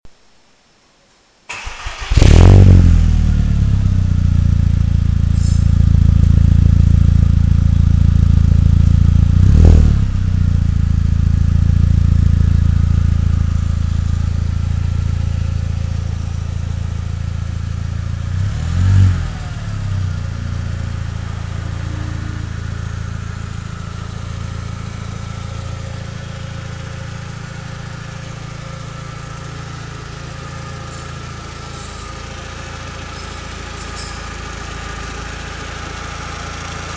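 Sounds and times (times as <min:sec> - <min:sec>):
car engine idling and revving: 0:01.5 - 0:36.9.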